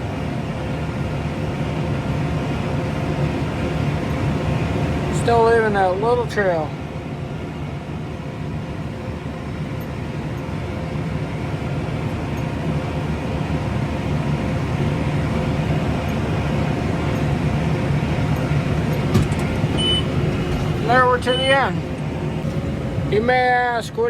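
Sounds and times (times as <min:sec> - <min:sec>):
tractor engine drone: 0:00.0 - 0:24.0.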